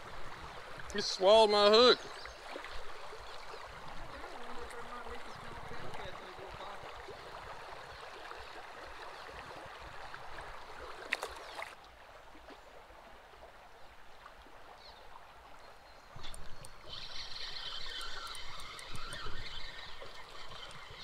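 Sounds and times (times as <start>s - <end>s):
creek water rippling: 0.0s - 21.0s.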